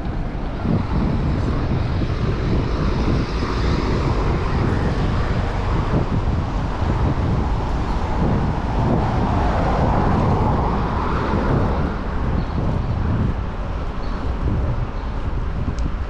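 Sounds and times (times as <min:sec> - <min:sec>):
road traffic: 0:00.0 - 0:16.0
wind rumbling on microphone: 0:00.0 - 0:16.0.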